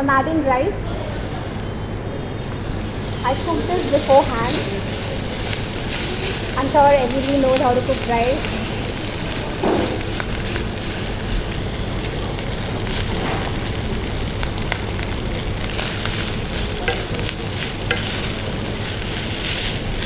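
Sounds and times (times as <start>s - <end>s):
food sizzling in a hot pan: 0.8s - 20.0s.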